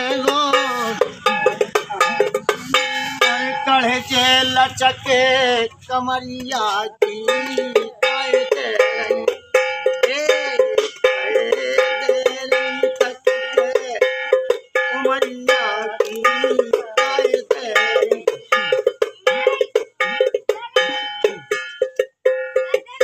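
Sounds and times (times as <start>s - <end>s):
metallic strikes on tin canister: 0.0s - 4.1s, 6.4s - 23.0s
man singing folk song: 0.0s - 19.7s.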